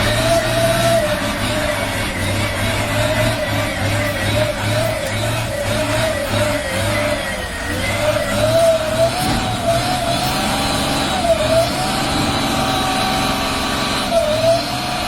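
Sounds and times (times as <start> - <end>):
motor vehicle running with whine: 0.0 - 15.0.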